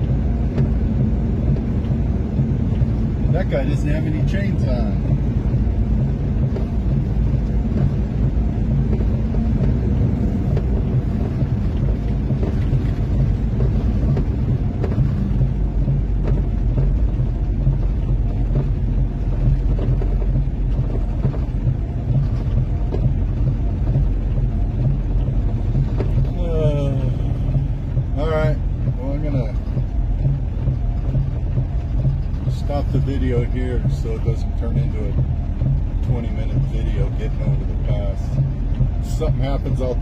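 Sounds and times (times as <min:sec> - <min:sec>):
tyres on snowy road: 0:00.0 - 0:40.0
vehicle engine rumble: 0:00.0 - 0:40.0.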